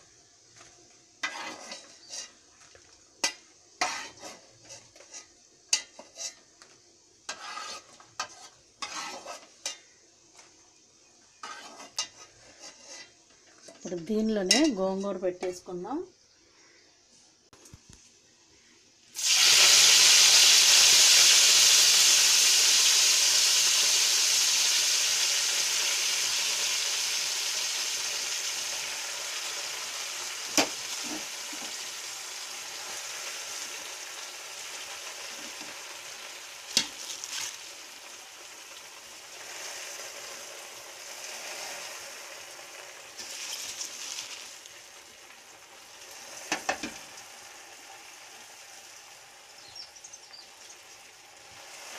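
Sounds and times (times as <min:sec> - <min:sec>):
leaves sizzling in hot oil: 0:00.0 - 0:15.7, 0:19.1 - 0:51.9.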